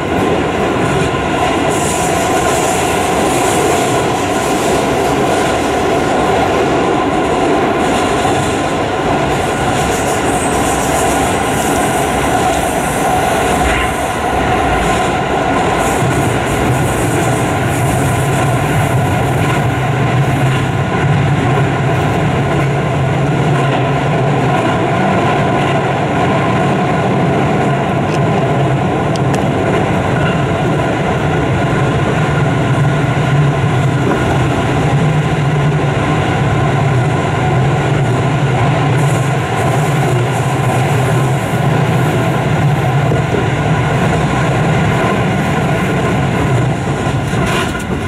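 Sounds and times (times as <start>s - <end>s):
train running noise: 0.0s - 48.0s.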